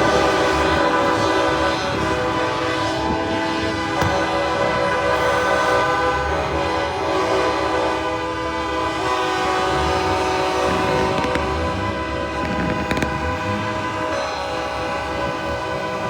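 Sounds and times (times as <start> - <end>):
train horns sounding chords: 0.0 - 16.0
truck engines rumbling: 0.0 - 16.0.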